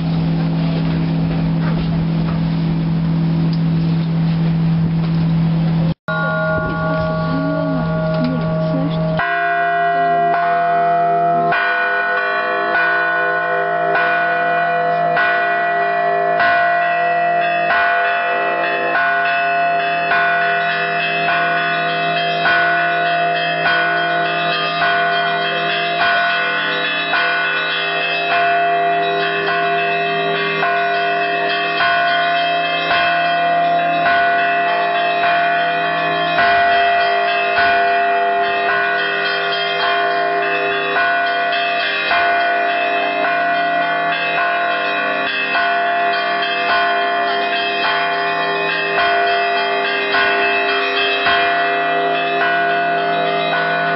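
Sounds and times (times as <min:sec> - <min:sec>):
church bells pealing: 0:00.0 - 0:53.9.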